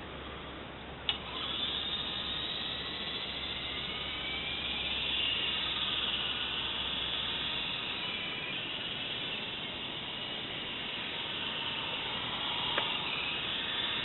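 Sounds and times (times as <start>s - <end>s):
rc helicopter motor whine: 1.1s - 14.0s.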